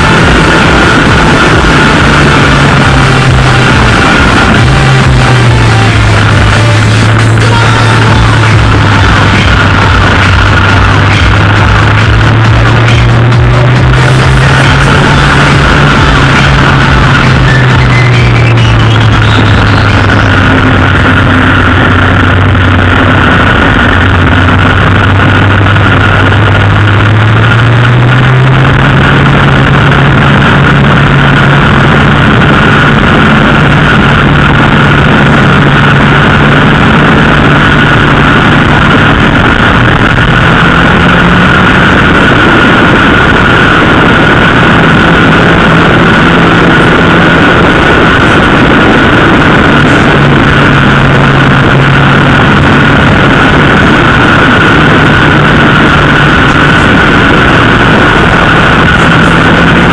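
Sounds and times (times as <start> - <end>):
motorcycle engine running: 0.0 - 59.9
thin high whine: 0.0 - 59.9
wind rush on microphone: 0.0 - 59.9.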